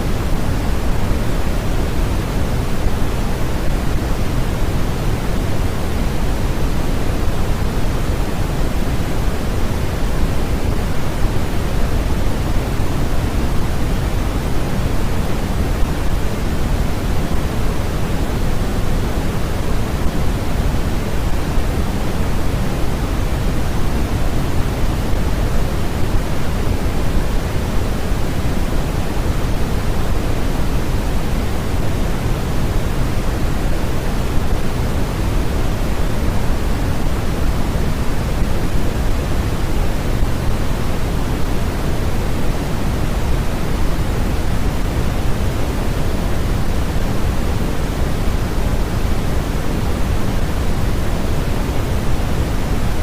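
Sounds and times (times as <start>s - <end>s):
deep white noise hiss: 0.0s - 53.0s.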